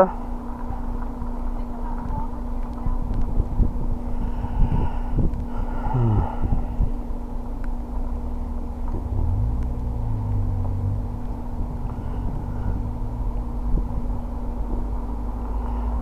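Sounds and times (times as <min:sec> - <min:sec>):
steady traffic hum: 0:00.0 - 0:16.0
traffic engine rumble: 0:00.0 - 0:16.0.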